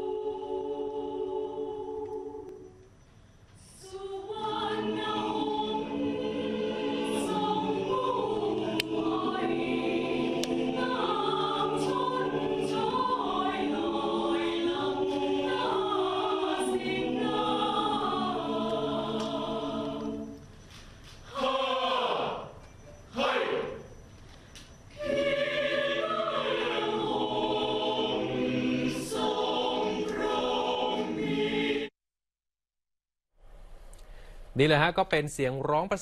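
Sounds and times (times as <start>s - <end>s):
a cappella choir singing: 0.0s - 3.0s, 3.6s - 32.0s.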